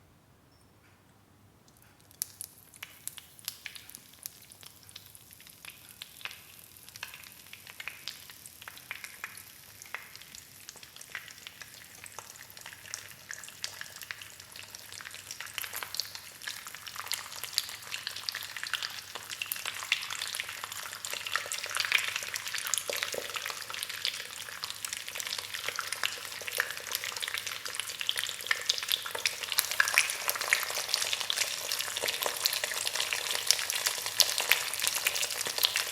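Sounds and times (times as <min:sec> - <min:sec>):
egg sizzling in a hot pan: 0:02.2 - 0:35.9.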